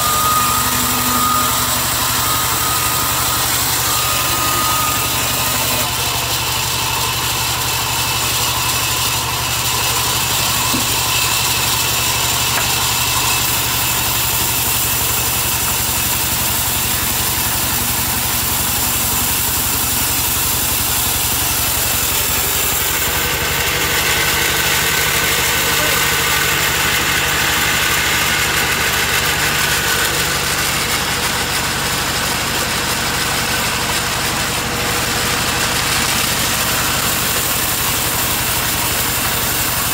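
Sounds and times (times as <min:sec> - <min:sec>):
band saw ripping a log: 0:00.0 - 0:39.9.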